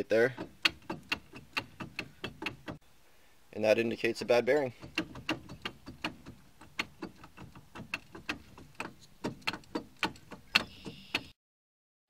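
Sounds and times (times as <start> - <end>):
wheel hub clunking: 0.0 - 2.8, 4.2 - 11.3.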